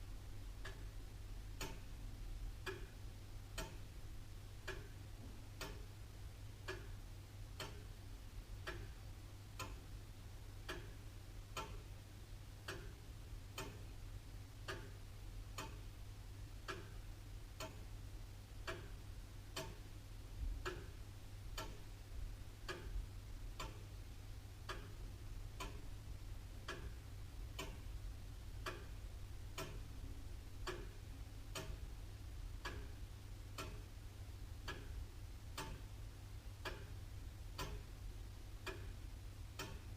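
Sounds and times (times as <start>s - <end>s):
clock ticking: 0.5s - 1.0s, 1.6s - 39.9s.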